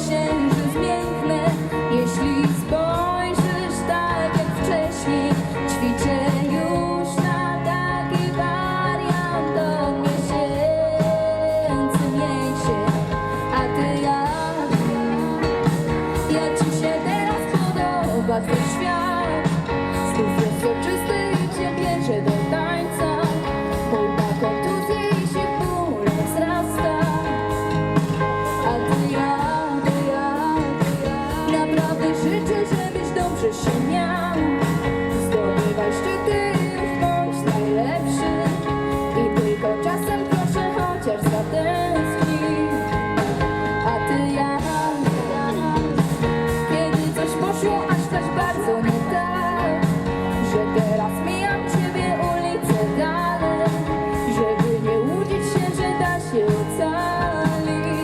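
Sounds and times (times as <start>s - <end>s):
drums: 0.0s - 58.0s
electric guitar: 0.0s - 58.0s
person singing: 0.0s - 58.0s.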